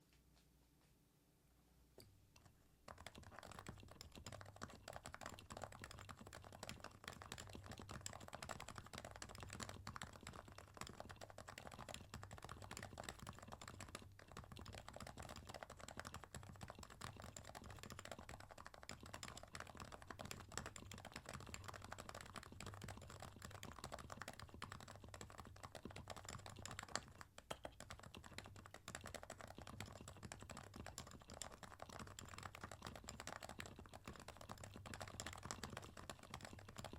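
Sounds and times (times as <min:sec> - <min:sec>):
fast keyboard typing: 0:02.4 - 0:36.9.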